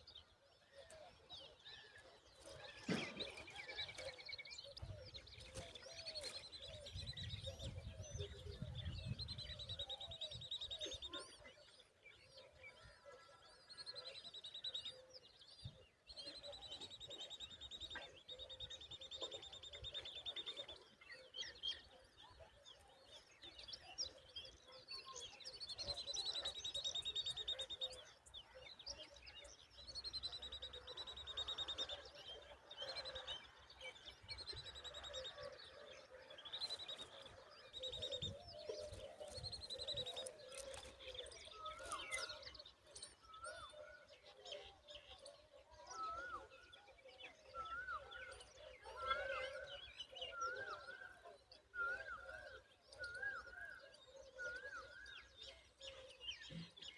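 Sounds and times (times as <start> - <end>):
birds calling with rapid trills: 0.0 - 56.9.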